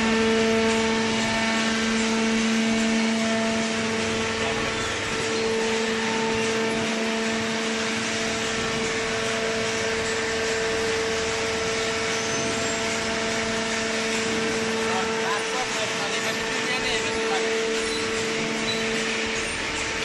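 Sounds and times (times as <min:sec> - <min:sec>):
hydraulic motor and pump humming: 0:00.0 - 0:20.0.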